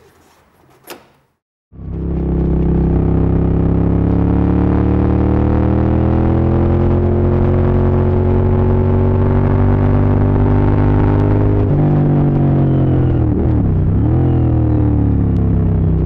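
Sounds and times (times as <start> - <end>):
motorcycle engine running: 1.8 - 16.0.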